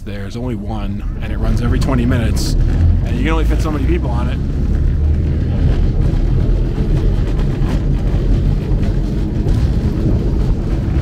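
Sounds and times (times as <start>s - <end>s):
tram rumbling on tracks: 0.0s - 11.0s.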